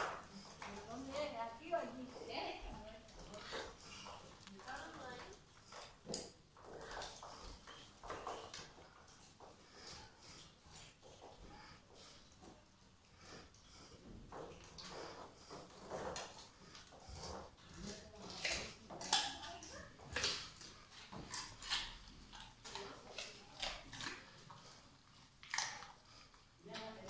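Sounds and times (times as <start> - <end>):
dog chewing food: 0.0 - 27.0.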